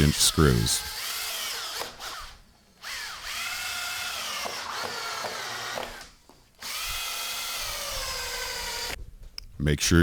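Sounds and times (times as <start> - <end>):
power drill motor whining: 0.0 - 9.0.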